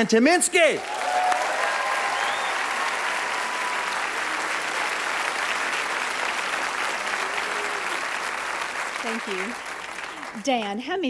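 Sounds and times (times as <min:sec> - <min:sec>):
audience applauding: 0:00.6 - 0:10.8.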